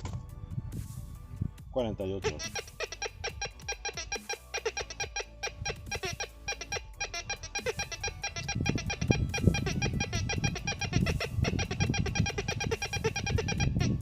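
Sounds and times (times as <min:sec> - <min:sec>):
metal detector short beeps: 0:02.3 - 0:14.0.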